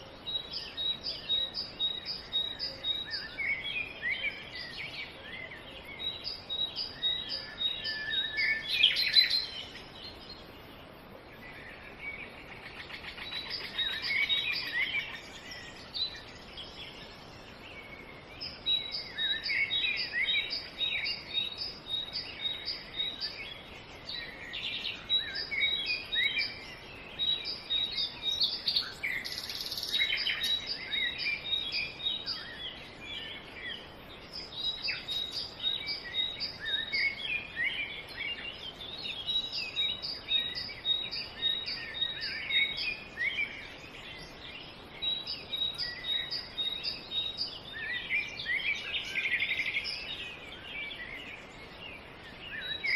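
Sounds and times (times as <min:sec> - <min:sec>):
faint outdoor background noise: 0:00.0 - 0:52.9
small birds chirping: 0:00.0 - 0:52.9.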